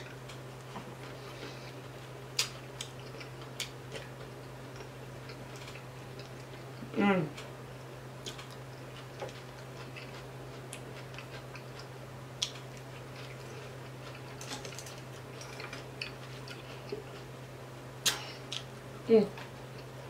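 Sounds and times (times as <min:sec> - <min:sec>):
soft chewing clicks: 0:00.0 - 0:07.5, 0:08.2 - 0:17.3, 0:18.0 - 0:18.7
steady low hum: 0:00.0 - 0:20.0.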